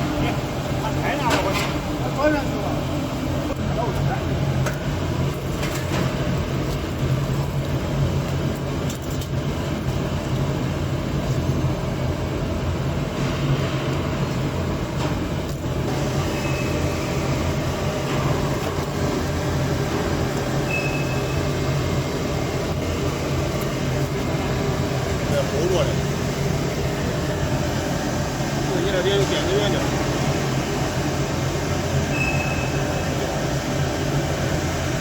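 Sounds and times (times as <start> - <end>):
industrial machinery running: 0.0 - 35.0.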